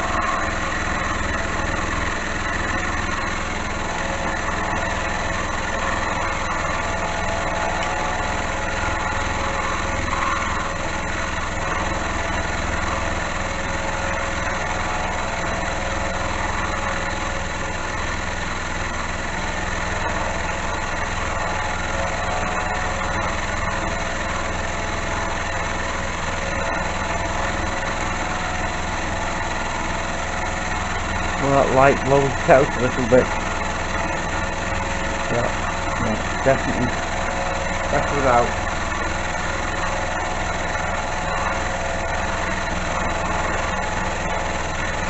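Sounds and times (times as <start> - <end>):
cutter cutting metal: 0.0 - 45.0
milling machine motor hum: 0.0 - 45.0.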